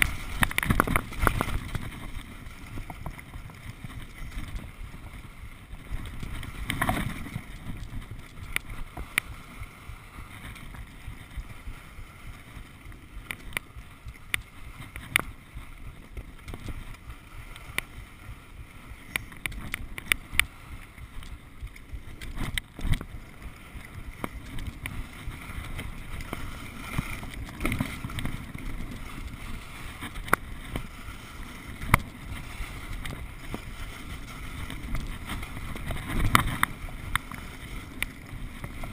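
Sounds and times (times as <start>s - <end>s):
skis scraping over snow: 0.0s - 38.9s
wind on microphone: 0.0s - 38.9s.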